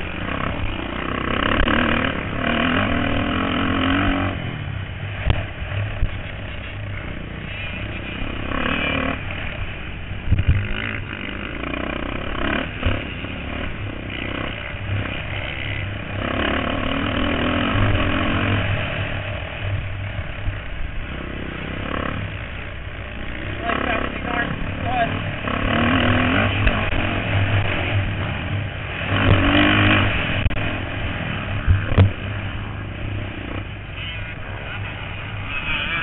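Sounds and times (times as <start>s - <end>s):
steady low rumble: 0.0s - 35.5s
dirt bike engines revving: 0.0s - 36.0s.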